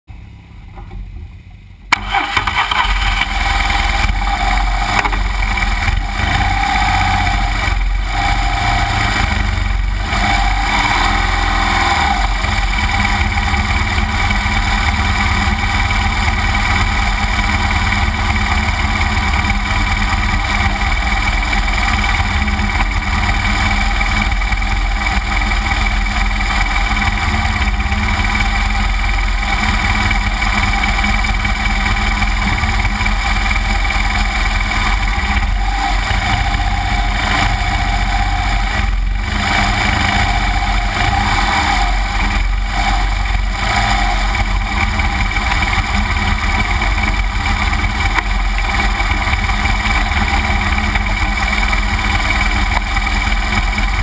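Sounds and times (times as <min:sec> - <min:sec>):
motorcycle engine under load: 0:00.1 - 0:54.0.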